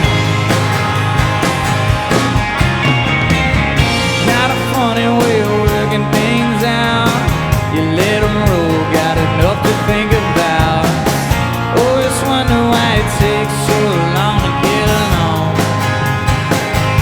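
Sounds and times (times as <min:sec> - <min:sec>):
bass: 0:00.0 - 0:17.0
drums: 0:00.0 - 0:17.0
rock band playing: 0:00.0 - 0:17.0
sliding melodic lead line: 0:00.0 - 0:17.0.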